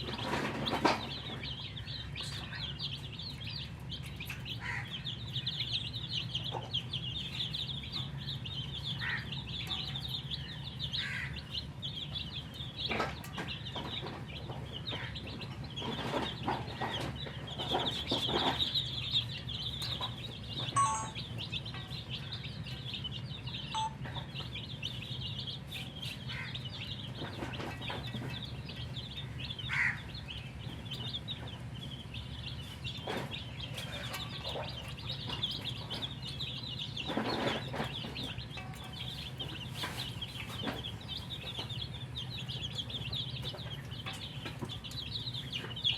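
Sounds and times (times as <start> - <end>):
baby chicks peeping: 0.0 - 45.9.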